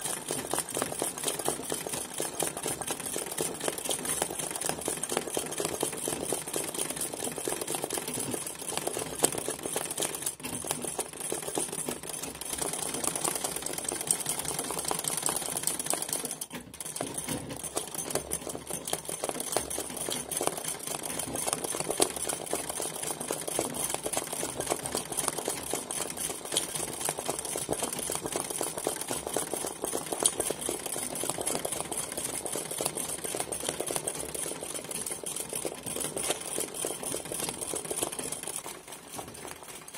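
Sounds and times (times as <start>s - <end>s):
sewing machine stitching rapidly: 0.0s - 39.9s.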